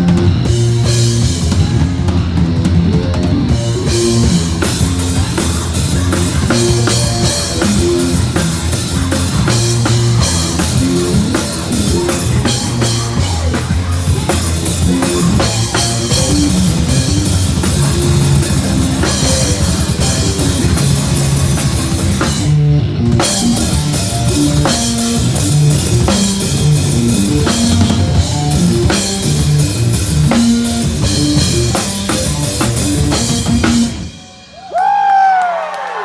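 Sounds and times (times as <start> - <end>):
guitar: 0.0 - 34.7
band playing fast rock: 0.0 - 35.4
pounding drum kit: 0.0 - 36.0.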